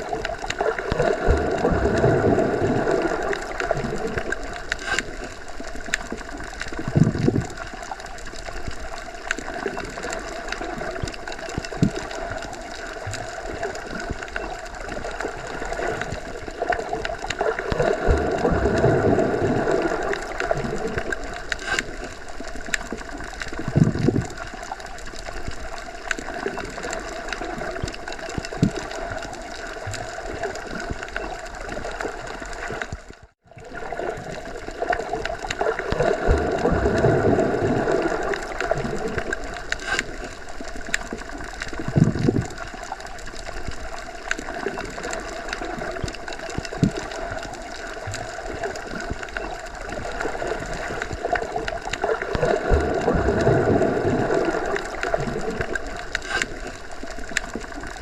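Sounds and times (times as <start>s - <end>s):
muffled underwater water noise: 0.0s - 58.0s.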